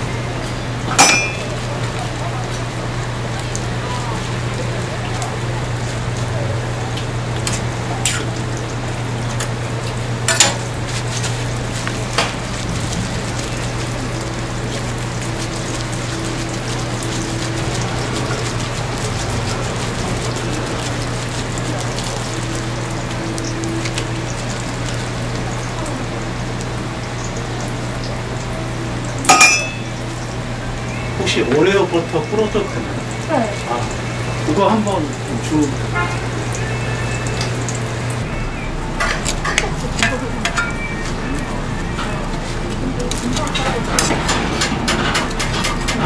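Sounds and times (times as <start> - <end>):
pancake sizzling in oil: 0.0 - 38.3
low steady hum: 0.0 - 44.4.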